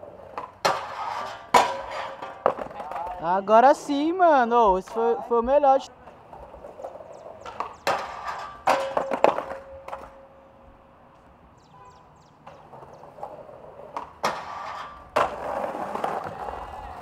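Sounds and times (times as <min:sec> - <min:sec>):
skateboard clacking on ground: 0:00.0 - 0:10.4, 0:12.4 - 0:17.0
skateboard wheels rolling: 0:00.0 - 0:11.6, 0:12.2 - 0:17.0.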